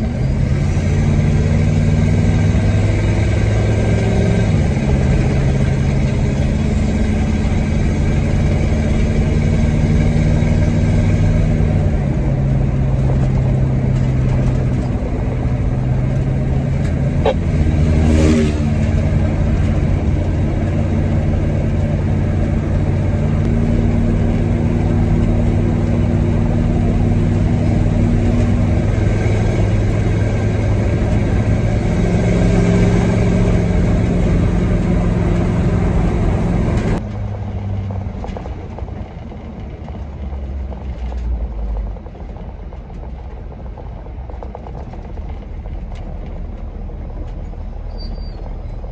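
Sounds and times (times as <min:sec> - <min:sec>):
diesel truck engine running: 0:00.0 - 0:48.9.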